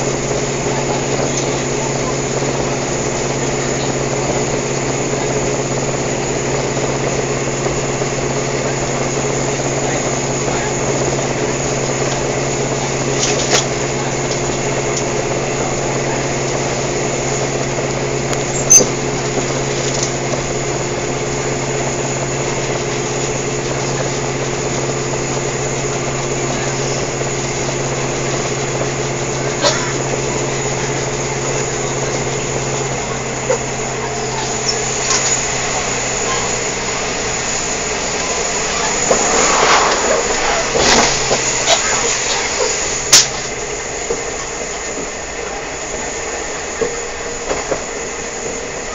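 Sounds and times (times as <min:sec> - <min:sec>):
railcar engine drone: 0:00.0 - 0:48.9.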